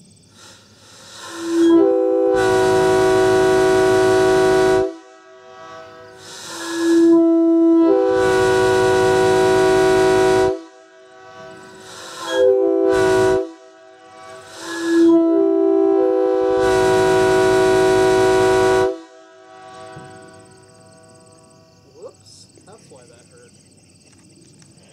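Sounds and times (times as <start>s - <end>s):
locomotive air horn blasts: 0.4s - 21.6s.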